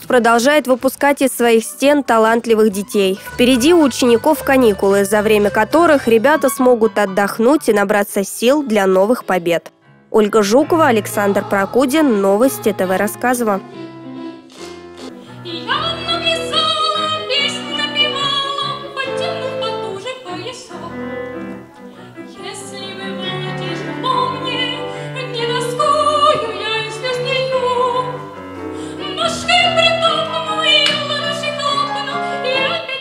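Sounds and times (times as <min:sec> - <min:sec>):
woman singing: 0:00.0 - 0:14.5, 0:15.2 - 0:33.0.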